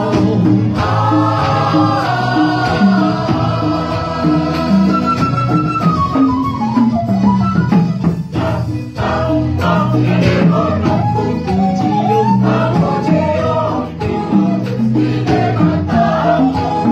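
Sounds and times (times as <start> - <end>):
choir singing a hymn: 0.0 - 5.5, 8.3 - 16.9
instrumental accompaniment: 0.0 - 16.9
steady percussion beat: 0.0 - 16.9.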